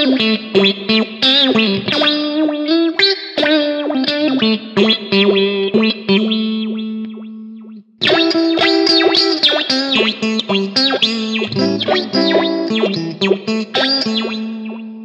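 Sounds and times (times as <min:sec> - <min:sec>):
electric guitar with auto-wah: 0:00.0 - 0:15.0.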